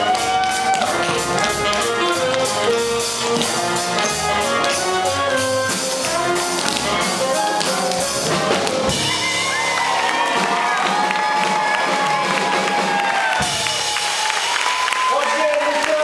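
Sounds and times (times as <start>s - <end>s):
big band playing swing jazz: 0.0s - 15.1s.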